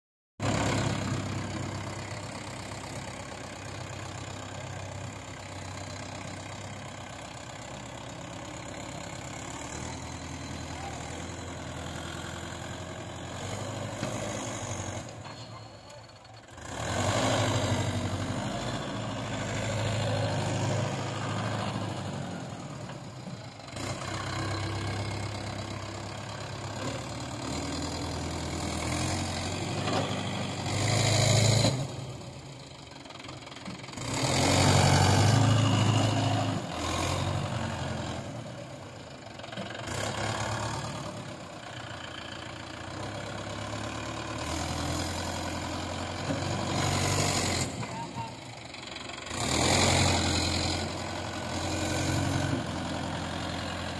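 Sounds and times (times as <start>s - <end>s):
tractor diesel engine running: 0.4s - 53.9s.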